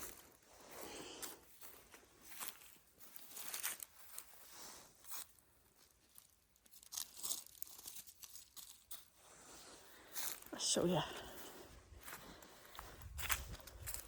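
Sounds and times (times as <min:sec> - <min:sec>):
footsteps crunching dry vegetation: 0:00.0 - 0:14.0.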